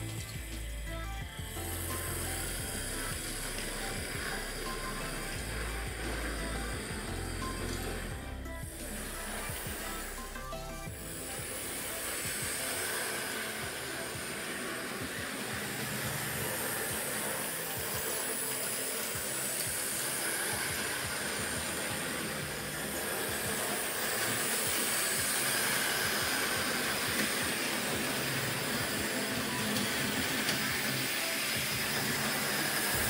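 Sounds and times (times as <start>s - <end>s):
electric motor whir: 0.0s - 33.0s
wheels clicking on rails: 0.0s - 33.0s.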